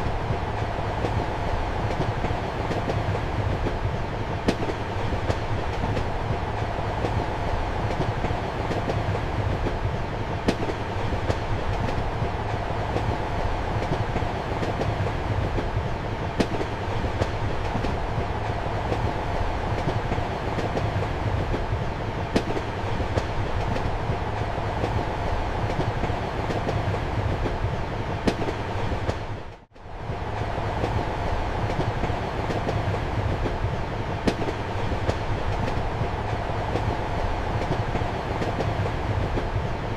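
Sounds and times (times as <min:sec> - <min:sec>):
train rolling rumble: 0:00.0 - 0:39.9
train wheel clicks: 0:00.6 - 0:29.4, 0:30.4 - 0:39.9.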